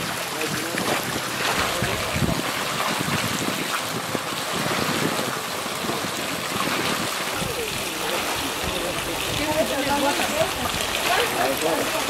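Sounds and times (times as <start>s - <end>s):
push broom scrubbing underwater: 0.0s - 12.0s
water splashing: 0.0s - 12.0s.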